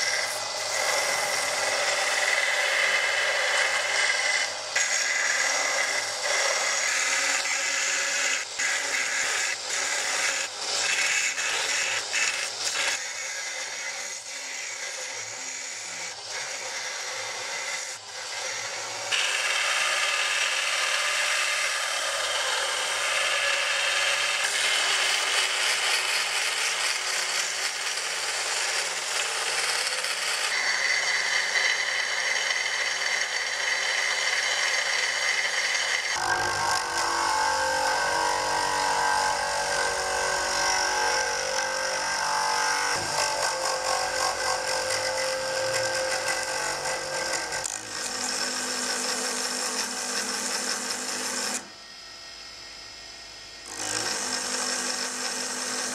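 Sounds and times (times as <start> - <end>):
bandsaw cutting steel: 0.0 - 51.8, 53.6 - 55.9
bench grinder grinding steel: 0.0 - 52.0, 53.5 - 55.9.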